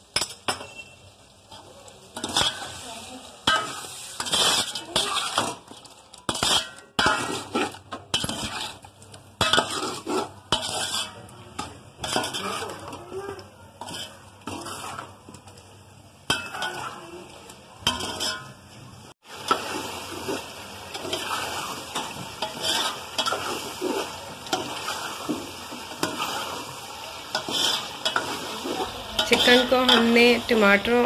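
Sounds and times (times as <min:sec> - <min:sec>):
food frying in oil: 0:00.0 - 0:31.0
metal spatula scraping a pot: 0:00.2 - 0:15.6, 0:16.2 - 0:18.6, 0:19.5 - 0:30.6.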